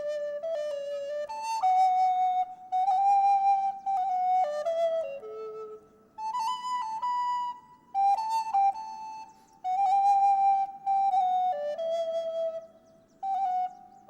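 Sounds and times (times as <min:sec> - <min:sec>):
flute playing slow melody: 0:00.0 - 0:14.0.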